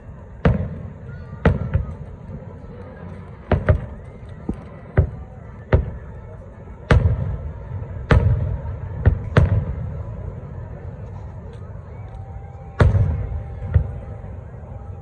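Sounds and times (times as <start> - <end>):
fireworks booming: 0.2 - 15.0.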